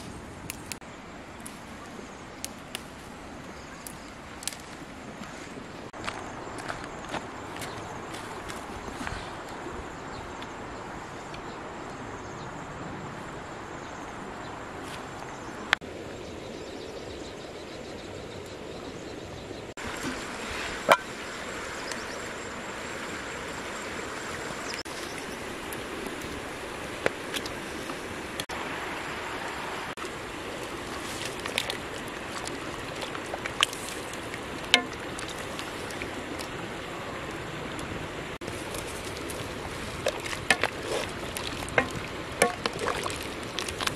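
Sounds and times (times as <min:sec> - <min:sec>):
stream flowing: 0:00.0 - 0:16.5, 0:17.1 - 0:43.9.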